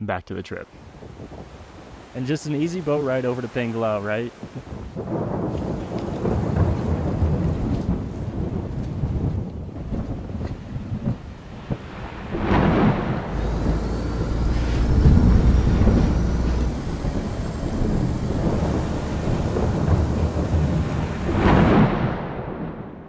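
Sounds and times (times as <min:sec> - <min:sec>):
choppy sea: 0:00.6 - 0:22.8
rain: 0:00.7 - 0:22.4
thunder rumbling: 0:04.4 - 0:23.0.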